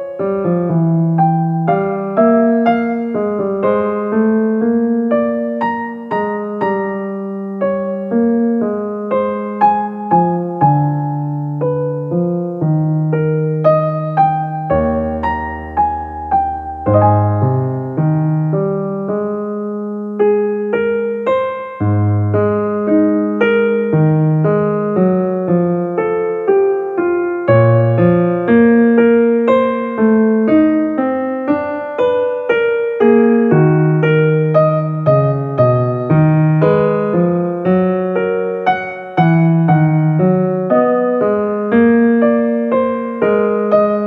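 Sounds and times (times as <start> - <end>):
gentle piano music: 0.0 - 44.0.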